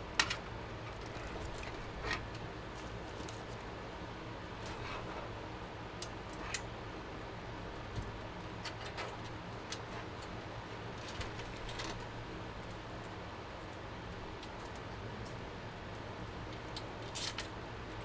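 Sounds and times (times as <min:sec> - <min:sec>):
steady low hum: 0:00.0 - 0:18.0
cables clicking and tapping on metal: 0:00.1 - 0:03.6, 0:06.0 - 0:06.7, 0:07.8 - 0:18.0.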